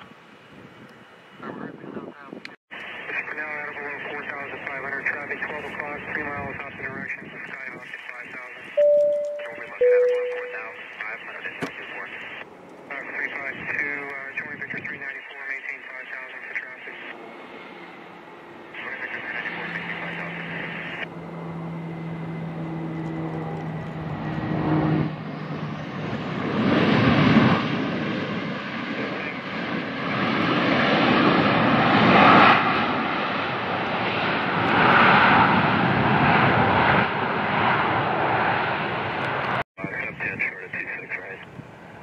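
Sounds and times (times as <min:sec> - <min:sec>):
jet engines roaring: 0:00.0 - 0:42.0.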